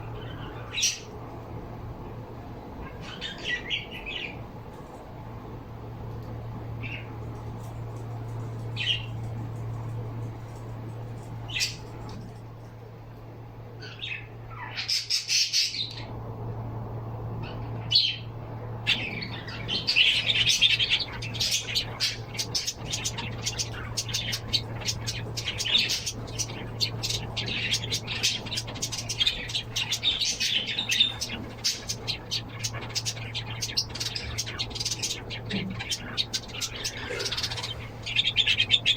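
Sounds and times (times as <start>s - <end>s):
birds chirping: 0.0s - 16.6s, 17.3s - 38.9s
steady low hum: 0.0s - 38.9s.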